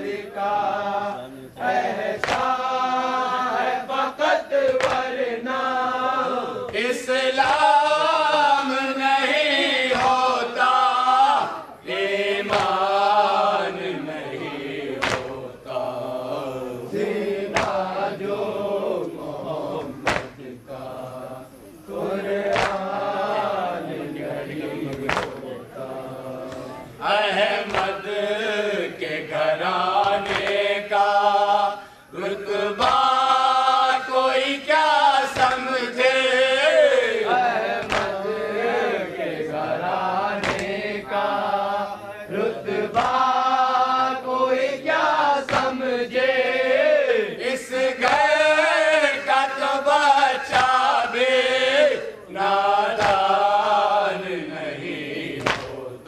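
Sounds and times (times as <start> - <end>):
men chanting a lament: 0.0 - 56.0.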